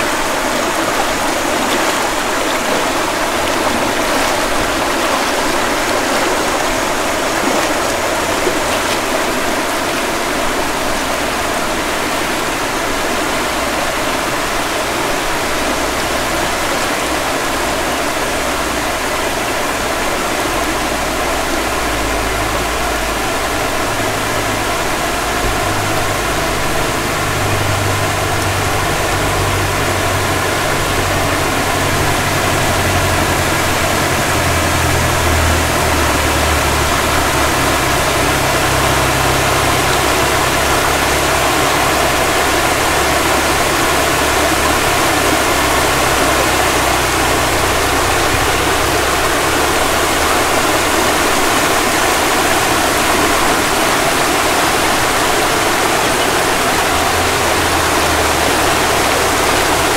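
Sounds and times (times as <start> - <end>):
low engine hum: 0.0 - 59.9
stream rushing over rocks: 0.0 - 59.9.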